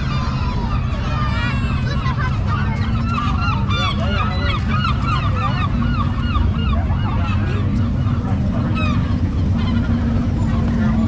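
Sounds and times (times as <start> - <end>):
flock of birds calling: 0.0 - 11.0
steady low drone: 0.0 - 11.0.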